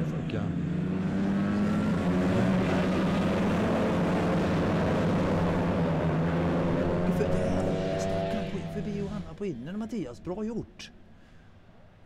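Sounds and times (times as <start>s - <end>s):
racing motorcycle engines: 0.0s - 10.4s.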